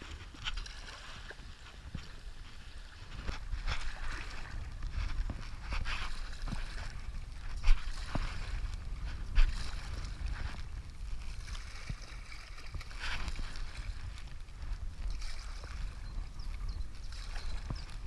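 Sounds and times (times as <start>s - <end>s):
paddle strokes splashing: 0.0s - 18.0s
wind rumble on microphone: 0.0s - 18.0s.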